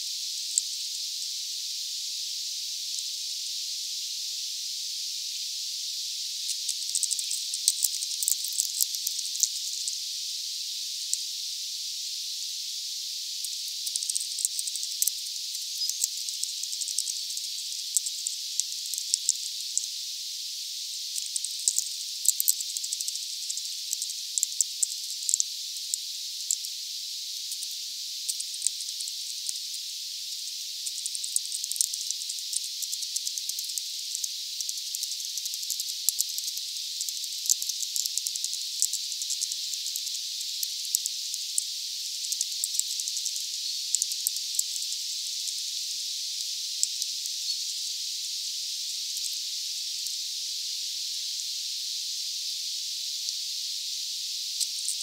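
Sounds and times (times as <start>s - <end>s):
faint irregular ticks: 0.0s - 55.0s
high-pitched hiss: 0.0s - 55.0s.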